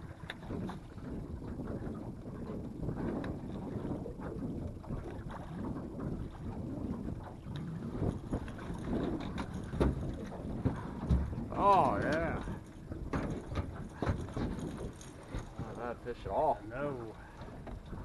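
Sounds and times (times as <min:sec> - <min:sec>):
water around a boat: 0:00.0 - 0:18.0
wind buffeting microphone: 0:00.0 - 0:18.0.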